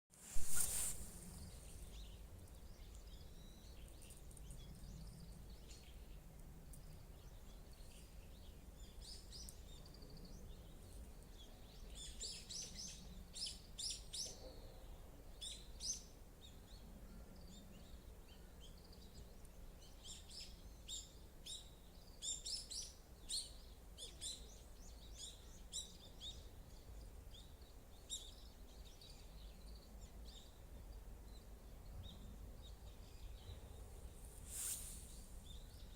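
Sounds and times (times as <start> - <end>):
small birds chirping: 0.2 - 14.5, 15.4 - 35.9.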